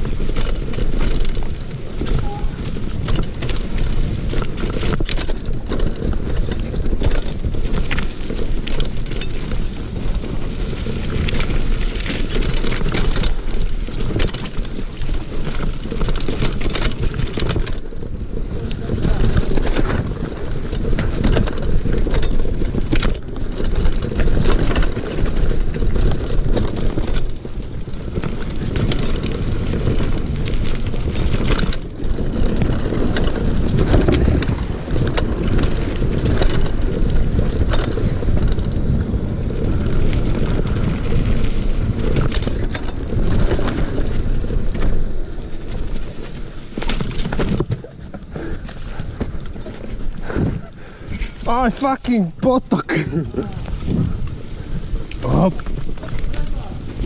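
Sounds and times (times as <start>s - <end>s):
bike knocking and rattling: 0.0s - 57.0s
bike tyre noise on dirt: 0.0s - 57.0s
wind rush on microphone: 0.0s - 57.0s.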